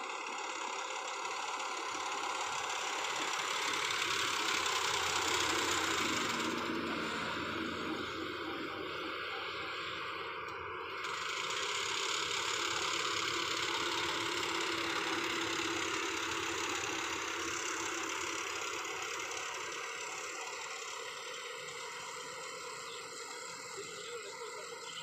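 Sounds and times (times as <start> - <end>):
combine harvester working: 0.0 - 25.0.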